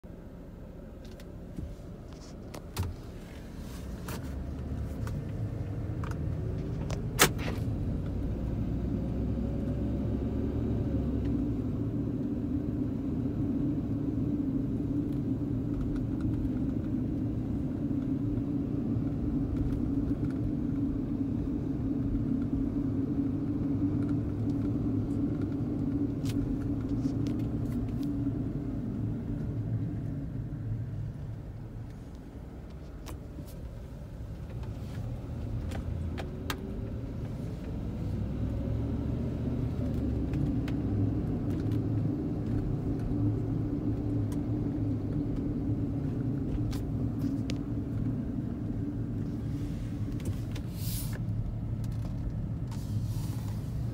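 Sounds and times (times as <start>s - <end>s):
car engine and road drone: 0.0s - 53.9s.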